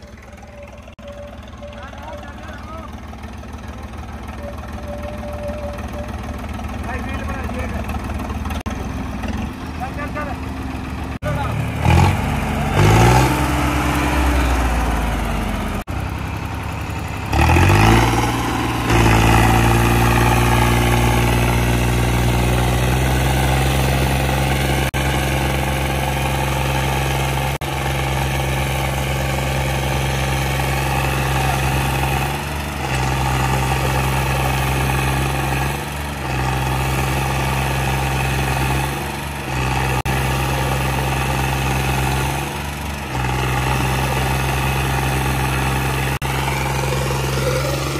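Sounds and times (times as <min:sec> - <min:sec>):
diesel tractor engines under load: 0:00.0 - 0:47.9.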